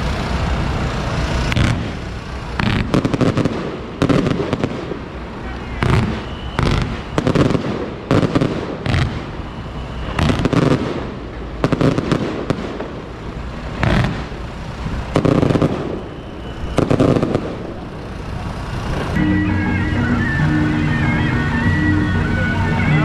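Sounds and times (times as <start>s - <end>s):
fireworks bangs and crackling: 0.0s - 19.2s.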